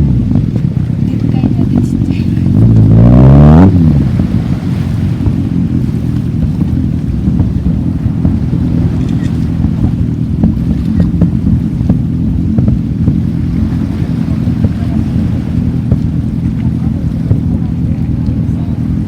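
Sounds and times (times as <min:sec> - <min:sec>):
motor vehicle passing: 0:00.0 - 0:19.0
wind rumble on microphone: 0:00.0 - 0:19.0.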